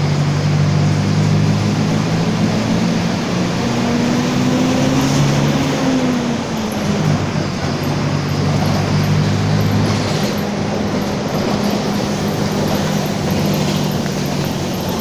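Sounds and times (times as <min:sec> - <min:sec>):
bus differential droning growl: 0:00.0 - 0:15.0
bus engine: 0:00.0 - 0:15.0
road noise: 0:00.0 - 0:15.0.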